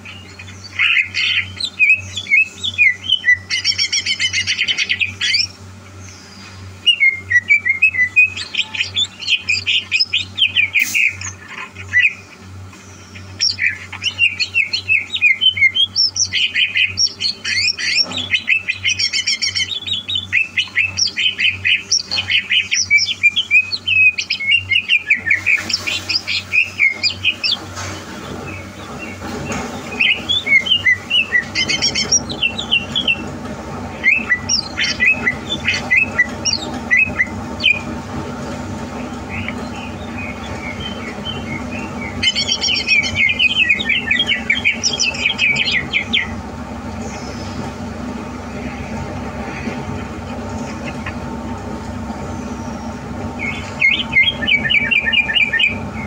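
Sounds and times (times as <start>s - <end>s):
bird chirping and warbling: 0.0s - 56.0s
low steady hum: 0.0s - 56.0s.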